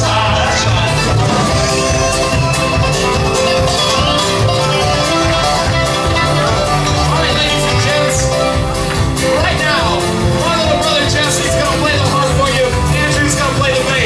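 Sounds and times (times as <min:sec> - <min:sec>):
banjo: 0:00.0 - 0:14.0
drums: 0:00.0 - 0:14.0
live folk punk band: 0:00.0 - 0:14.0
strummed acoustic guitars: 0:00.0 - 0:14.0
upright bass: 0:00.0 - 0:14.0.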